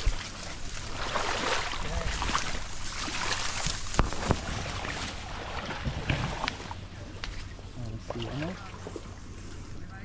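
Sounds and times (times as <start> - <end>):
low steady rumble: 0.0 - 10.0
reeds rustling: 0.0 - 10.0
water sloshing and splashing: 0.0 - 10.0.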